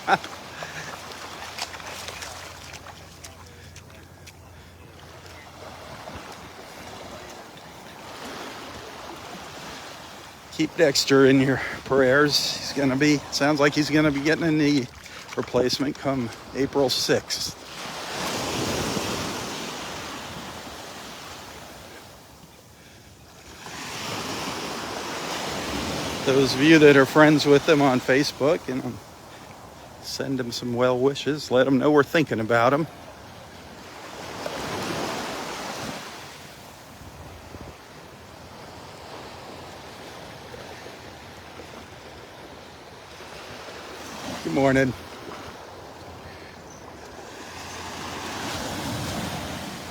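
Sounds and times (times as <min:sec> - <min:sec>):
waves washing on sandy beach: 0:00.0 - 0:49.9.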